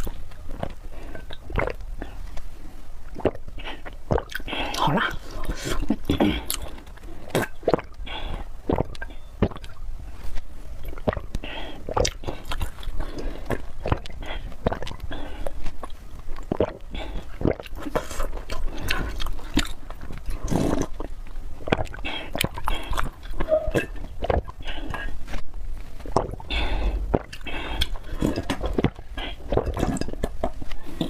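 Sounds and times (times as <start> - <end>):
wet chewing with mouth clicks: 0.0 - 31.0.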